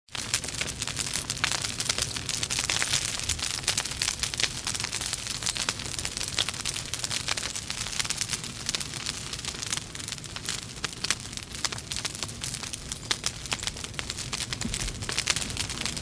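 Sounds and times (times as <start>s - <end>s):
logs crackling in fireplace: 0.1s - 16.0s.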